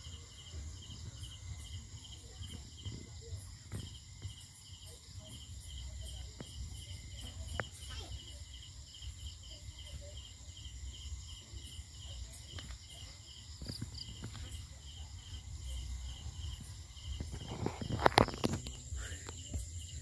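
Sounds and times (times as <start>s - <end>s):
crickets chirping: 0.0s - 20.0s
high insect trill: 0.0s - 20.0s.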